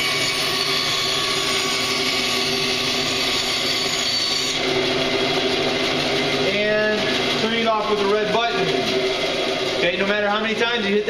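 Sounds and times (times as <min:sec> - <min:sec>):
bandsaw cutting wood: 0:00.0 - 0:10.0
bandsaw motor hum: 0:00.0 - 0:11.0.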